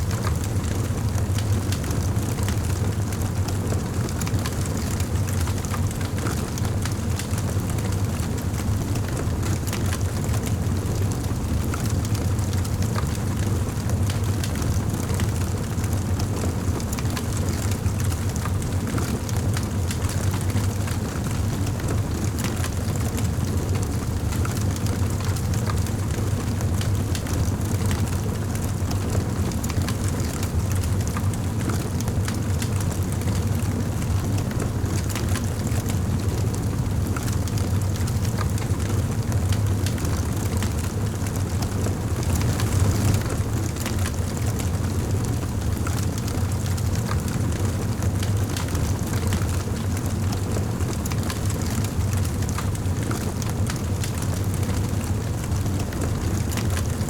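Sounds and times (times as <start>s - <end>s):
fire crackling and popping: 2.6s - 11.7s, 12.6s - 57.0s.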